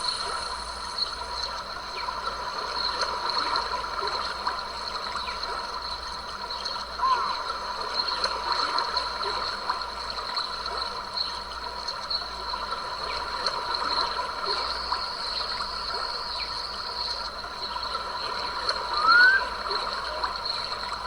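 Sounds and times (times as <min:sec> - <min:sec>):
creek water trickling: 0:00.0 - 0:21.0
insects droning: 0:00.0 - 0:21.0.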